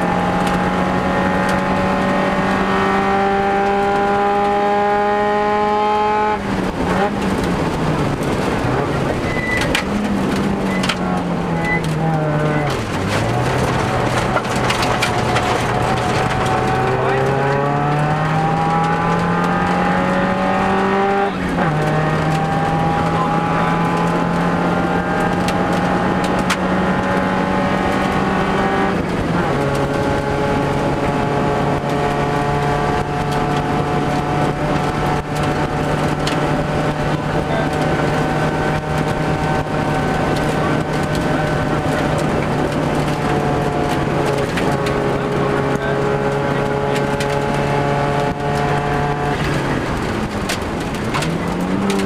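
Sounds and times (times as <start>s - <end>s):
car engine accelerating: 0.0s - 52.0s
gravel road noise: 0.0s - 52.0s.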